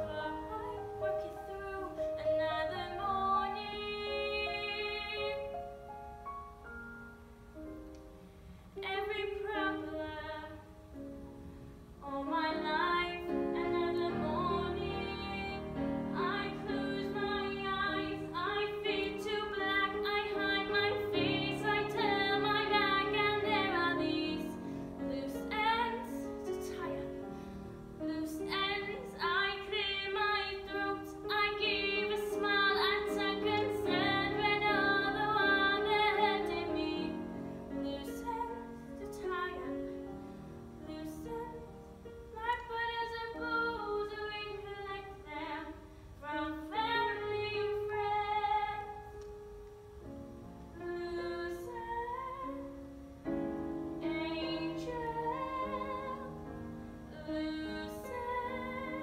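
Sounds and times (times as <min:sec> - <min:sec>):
woman singing: 0:00.0 - 0:05.6, 0:08.8 - 0:10.8, 0:12.0 - 0:27.3, 0:28.0 - 0:40.1, 0:40.8 - 0:49.2, 0:50.8 - 0:52.8, 0:53.9 - 0:59.0.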